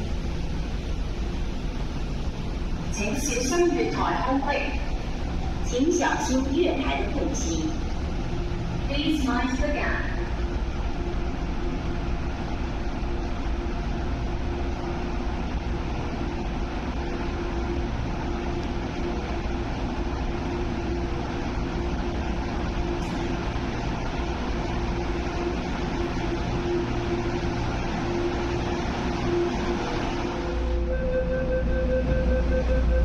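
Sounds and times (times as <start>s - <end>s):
low rumble: 0.0s - 33.0s
mid-pitched mechanical hum: 0.0s - 33.0s.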